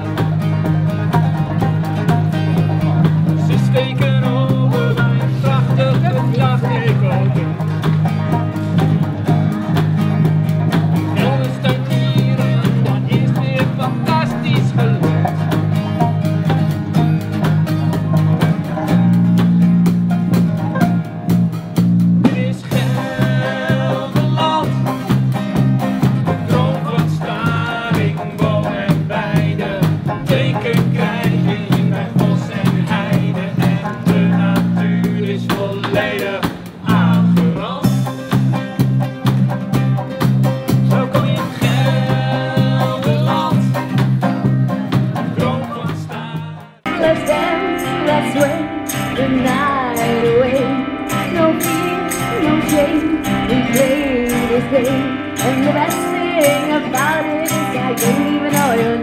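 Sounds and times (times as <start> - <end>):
acoustic guitar strumming: 0.0 - 59.0
banjo: 0.0 - 59.0
bass line: 0.0 - 59.0
drum kit beat: 0.0 - 59.0
electric guitar: 0.0 - 59.0.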